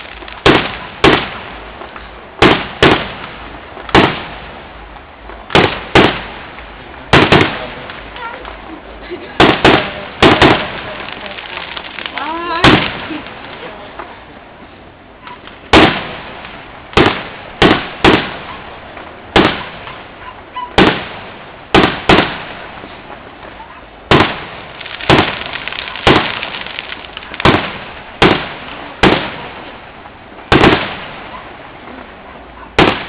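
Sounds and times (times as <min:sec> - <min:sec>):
loud explosive bangs echoing: 0:00.0 - 0:08.2, 0:09.3 - 0:13.7, 0:15.3 - 0:31.8, 0:32.8 - 0:33.0.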